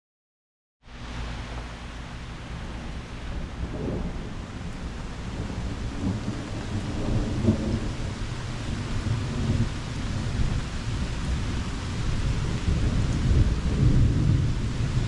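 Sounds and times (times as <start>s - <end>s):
steady rain falling: 0.8s - 15.0s
thunder rumbling: 1.8s - 15.0s.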